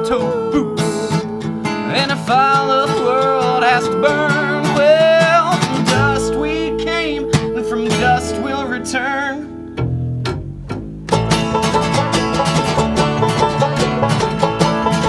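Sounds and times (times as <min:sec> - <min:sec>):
acoustic country band playing: 0:00.0 - 0:15.0.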